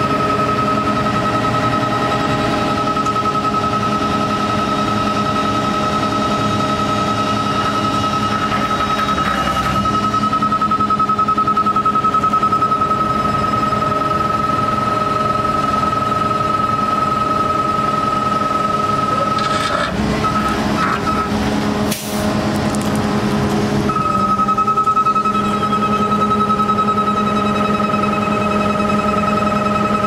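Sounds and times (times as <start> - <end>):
rapid high-pitched alarm beeping: 0.0 - 19.5, 23.9 - 30.0
truck engine running: 0.0 - 30.0.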